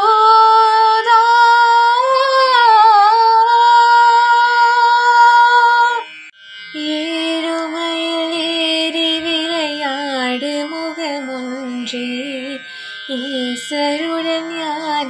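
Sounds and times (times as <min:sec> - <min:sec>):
girl singing: 0:00.0 - 0:06.1, 0:06.8 - 0:15.0.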